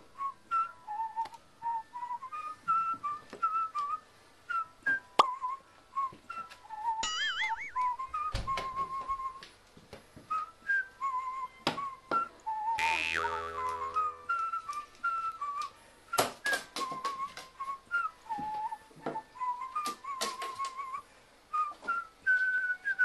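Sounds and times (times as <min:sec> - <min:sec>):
whistled melody music: 0:00.2 - 0:09.4, 0:10.3 - 0:23.0.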